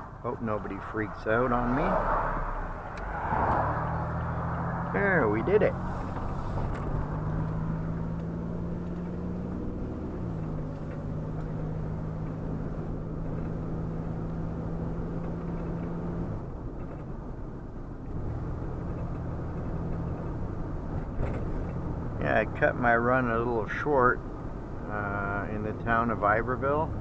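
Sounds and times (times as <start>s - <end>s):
road noise: 0.0s - 27.0s
vehicle engine droning: 0.0s - 27.0s.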